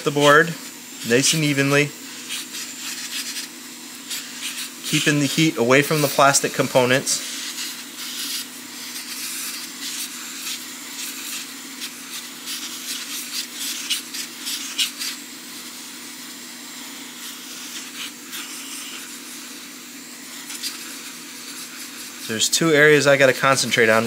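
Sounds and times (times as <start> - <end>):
hot air blowing hiss: 0.0 - 24.0.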